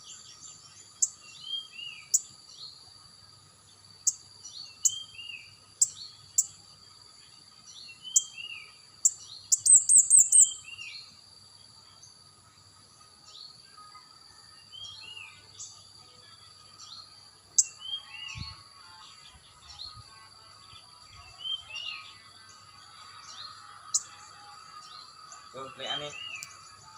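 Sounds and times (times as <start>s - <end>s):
songbird singing: 0.0s - 26.9s.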